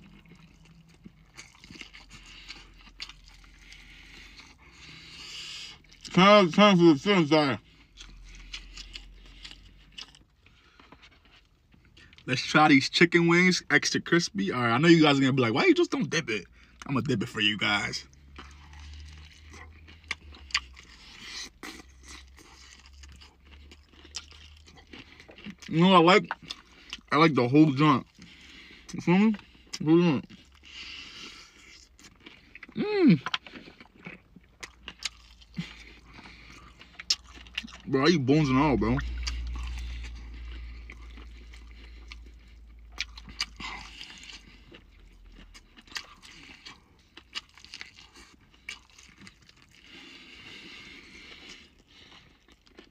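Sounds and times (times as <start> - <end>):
crunching and chewing fried chicken: 0.0 - 52.9.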